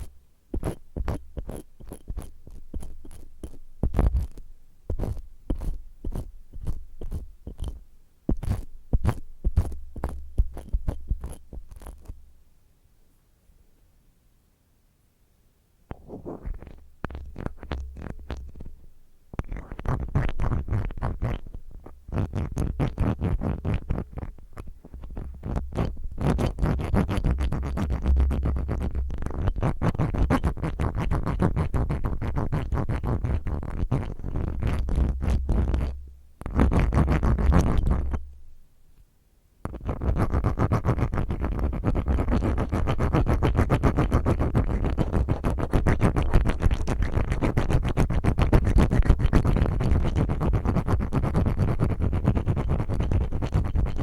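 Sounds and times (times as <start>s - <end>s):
scratching on microphone: 0.0s - 12.2s, 15.9s - 38.4s, 39.6s - 54.0s.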